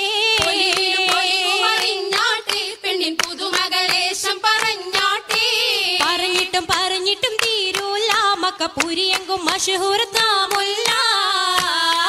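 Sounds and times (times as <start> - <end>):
rhythmic hand claps: 0.0 - 12.0
voices singing in unison: 0.0 - 12.0.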